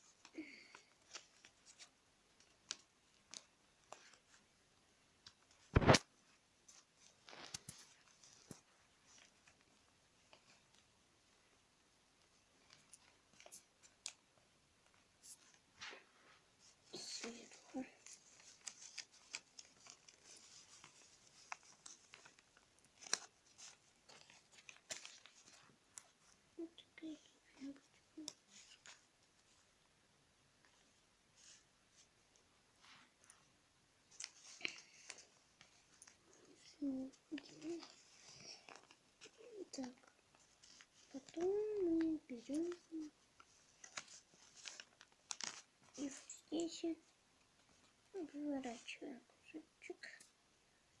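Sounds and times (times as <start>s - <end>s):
paper rustling and crackling: 0.0s - 4.5s, 5.1s - 11.4s, 12.2s - 29.7s, 34.1s - 49.0s.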